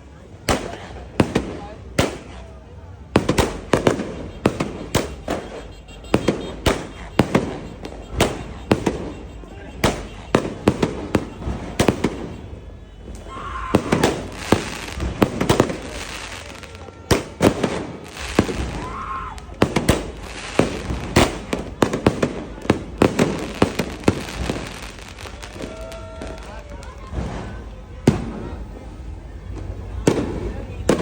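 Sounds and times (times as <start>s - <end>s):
fireworks banging: 0.1s - 31.0s
firework crackling: 0.4s - 31.0s.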